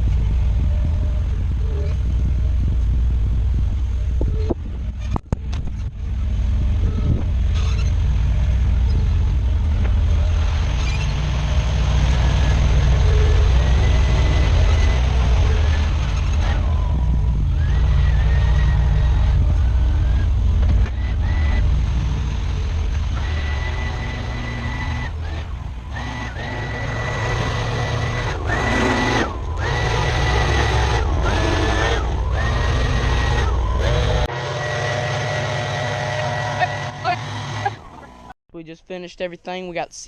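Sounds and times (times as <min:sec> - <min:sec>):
thin whine: 0:00.0 - 0:38.3
skid steer engine rumbling: 0:00.0 - 0:38.4.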